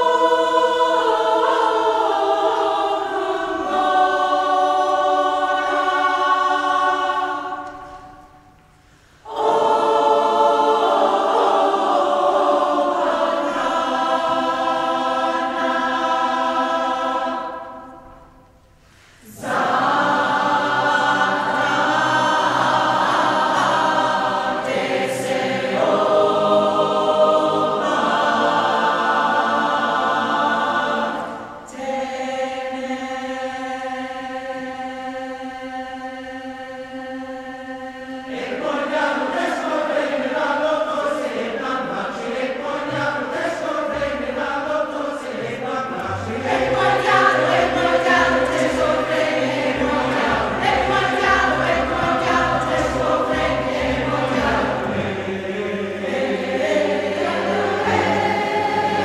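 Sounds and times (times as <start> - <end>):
large choir singing: 0.0 - 59.0.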